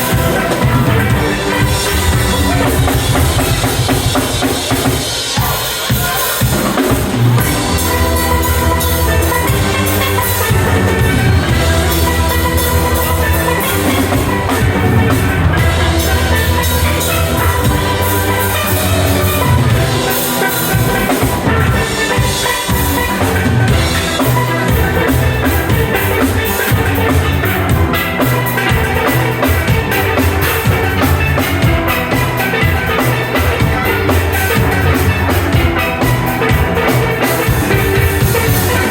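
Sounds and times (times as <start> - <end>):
bass line: 0.0 - 5.0, 7.0 - 38.9
drum kit beat: 0.0 - 38.9
steelpans playing melody: 0.0 - 38.9.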